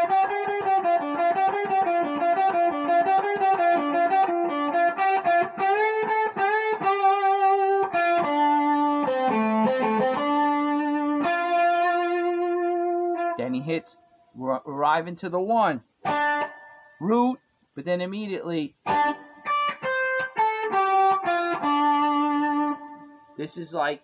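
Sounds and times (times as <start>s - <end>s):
electric guitar blues lead: 0.0s - 14.2s, 15.9s - 17.2s, 18.7s - 23.9s.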